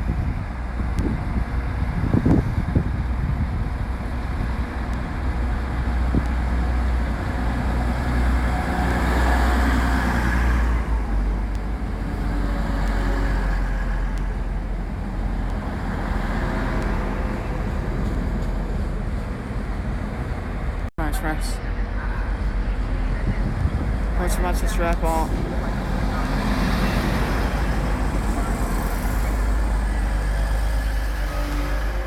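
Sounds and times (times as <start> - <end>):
train engine rumble: 0.0 - 32.0.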